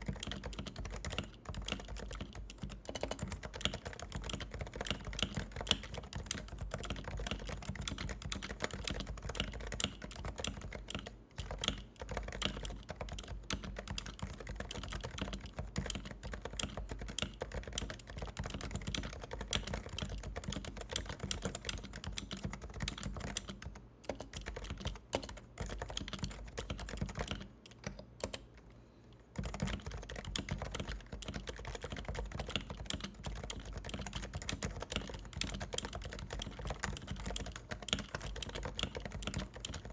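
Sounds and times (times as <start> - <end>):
fast typing on a quiet keyboard: 0.0 - 28.5, 29.3 - 39.9.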